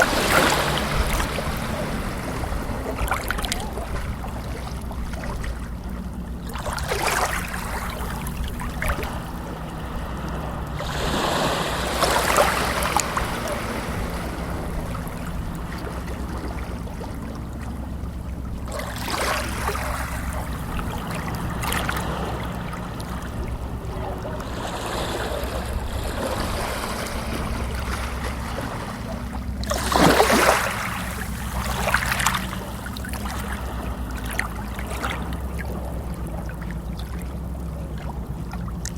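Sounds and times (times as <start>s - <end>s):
steady low hum: 0.0s - 38.9s
water sloshing and splashing: 0.0s - 38.9s.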